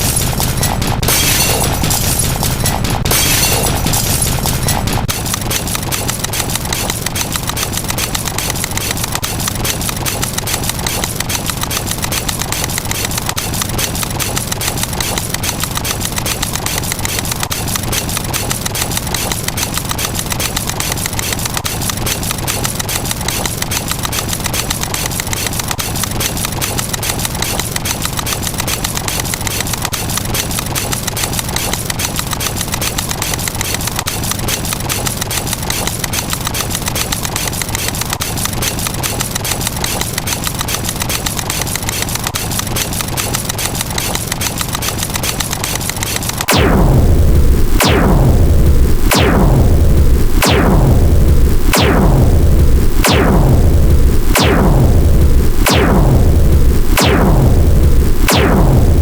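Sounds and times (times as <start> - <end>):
rapid clicking rattle: 0.0 - 59.0.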